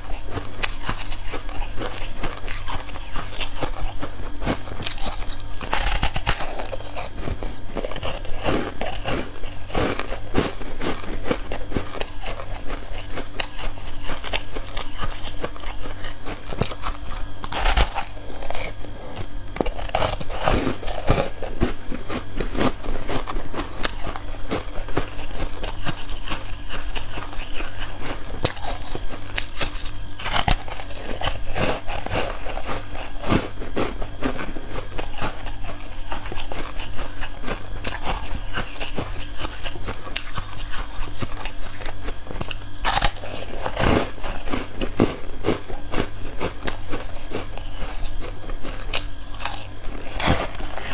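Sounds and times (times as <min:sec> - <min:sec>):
chewing crunchy ice: 0:00.0 - 0:50.9.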